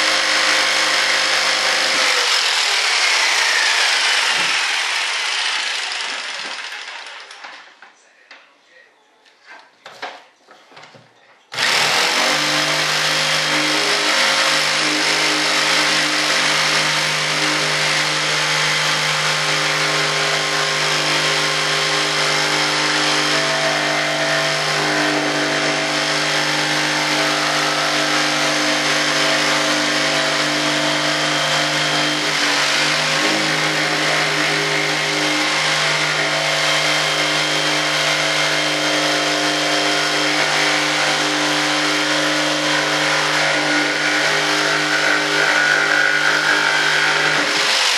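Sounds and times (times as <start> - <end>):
jigsaw cutting fibreglass: 0.0 - 7.5, 11.5 - 47.9.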